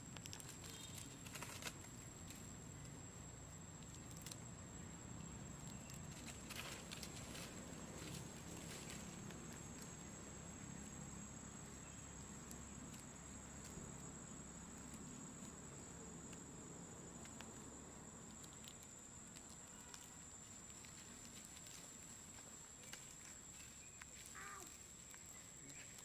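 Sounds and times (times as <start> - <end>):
high-pitched insect trill: 0.0 - 26.0
dry leaves rustling: 0.1 - 3.0, 5.3 - 15.9, 17.2 - 26.0.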